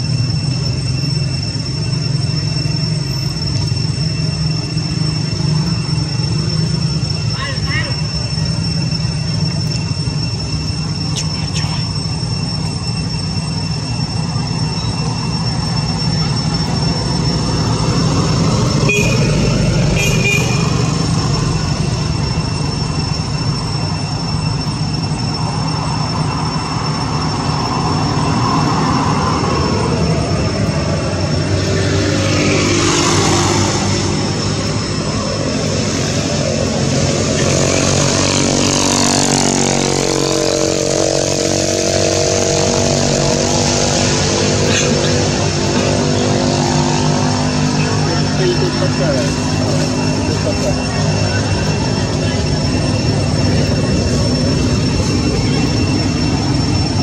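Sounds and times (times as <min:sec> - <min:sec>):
low engine-like note: 0:00.0 - 0:57.0
mechanical drone with low hum: 0:00.0 - 0:57.0.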